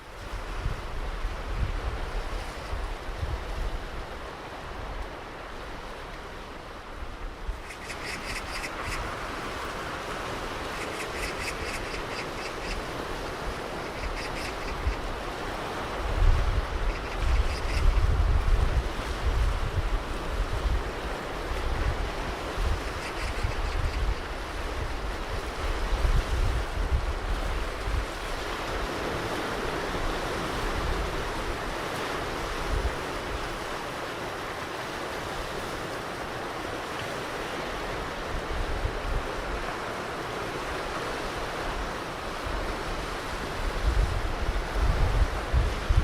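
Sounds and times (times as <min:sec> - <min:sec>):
ocean surf washing on beach: 0:00.0 - 0:46.0
wind buffeting microphone: 0:00.2 - 0:05.6, 0:07.0 - 0:33.7, 0:40.7 - 0:46.0.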